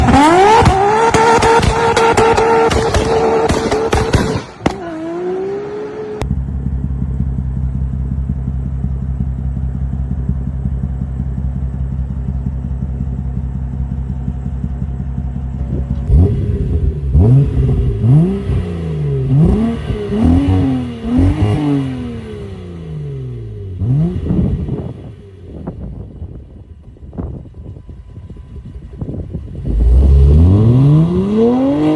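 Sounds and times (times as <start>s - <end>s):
car engine idling and revving: 0.0s - 31.9s.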